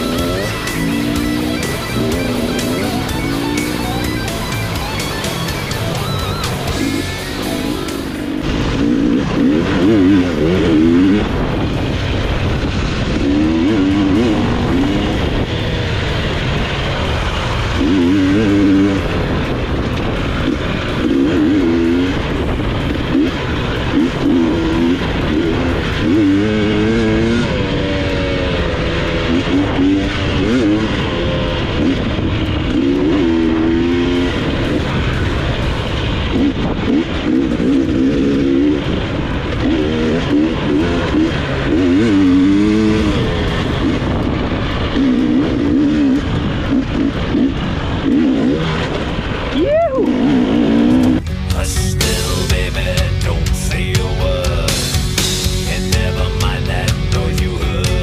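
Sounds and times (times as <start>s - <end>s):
wind noise on microphone: 0.0s - 54.7s
dirt bike engine revving: 0.0s - 58.0s.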